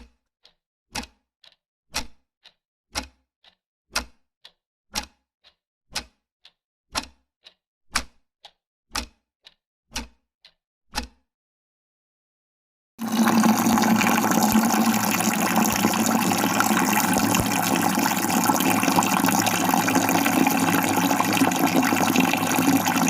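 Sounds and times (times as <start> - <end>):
steady rhythmic ticking: 0.4 - 11.1, 13.0 - 23.0.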